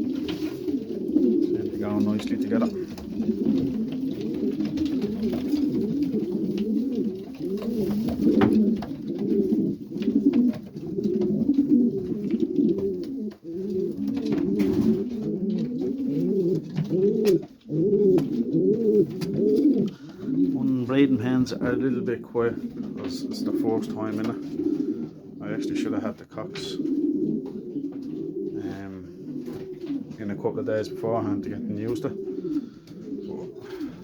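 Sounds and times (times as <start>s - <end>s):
pigeons cooing: 0.0s - 34.0s.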